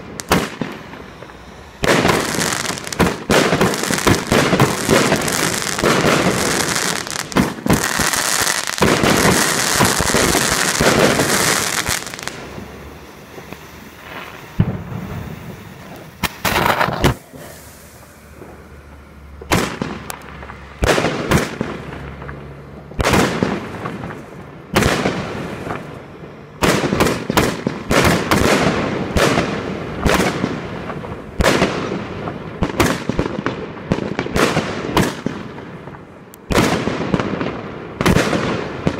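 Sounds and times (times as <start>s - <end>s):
firework crackling and bangs: 0.0s - 38.9s.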